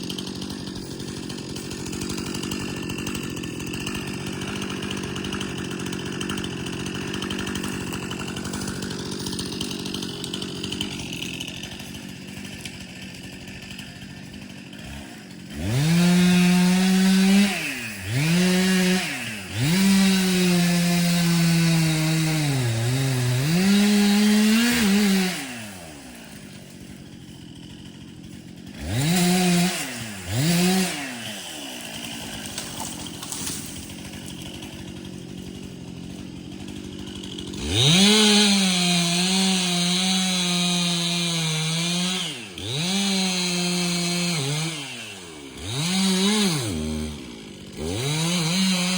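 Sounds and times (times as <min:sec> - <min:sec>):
chainsaw cutting wood: 0:00.0 - 0:48.9
chainsaw idling and revving: 0:00.0 - 0:48.9.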